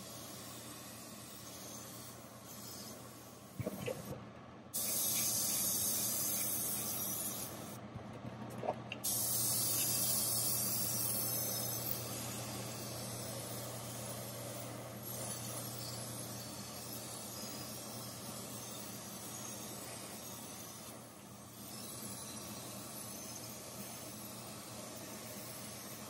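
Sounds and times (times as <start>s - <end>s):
airbrush spraying: 0.0s - 4.1s, 4.7s - 7.8s, 9.0s - 26.0s
exhaust fan hum: 0.0s - 21.6s.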